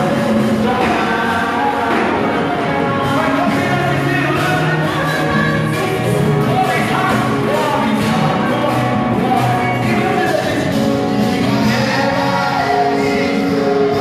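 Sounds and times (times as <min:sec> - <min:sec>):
keyboard backing: 0:00.0 - 0:14.0
singers through microphones: 0:00.0 - 0:14.0.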